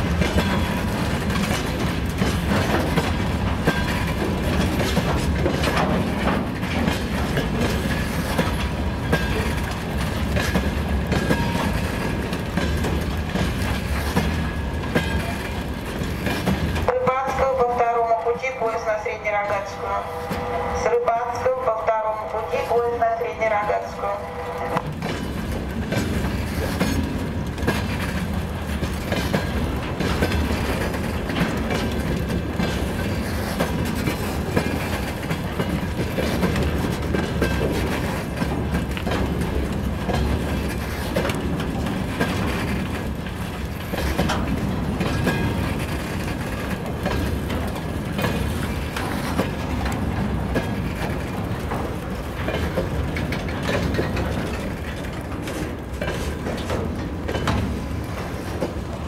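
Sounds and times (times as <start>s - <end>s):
wheels clattering over rail joints: 0.0s - 18.9s, 19.7s - 59.0s
freight train rumble: 0.0s - 59.0s.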